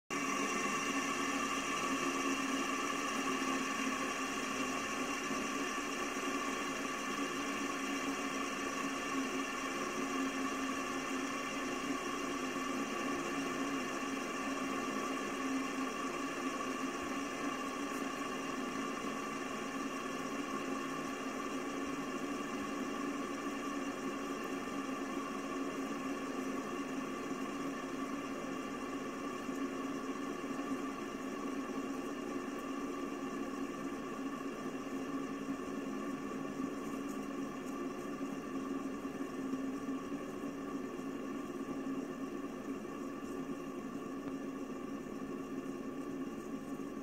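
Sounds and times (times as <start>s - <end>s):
fidget spinner whirring hum: 0.1s - 47.0s.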